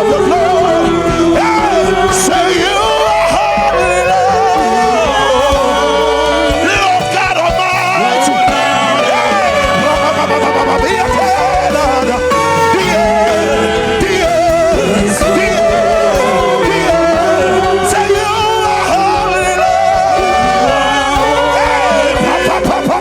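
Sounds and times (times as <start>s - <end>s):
instrumental accompaniment: 0.0s - 23.0s
person singing with vibrato: 0.0s - 23.0s.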